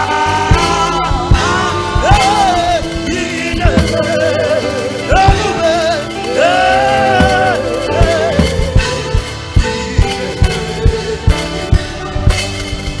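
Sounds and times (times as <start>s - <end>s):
gospel music with drums: 0.0s - 13.0s.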